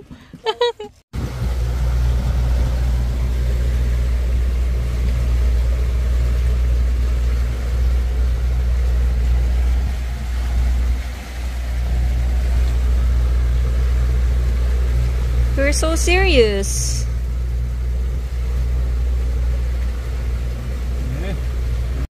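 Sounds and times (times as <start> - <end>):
wind: 0.0 - 22.0
motorboat engine droning: 0.2 - 22.0
rushing water: 1.2 - 22.0.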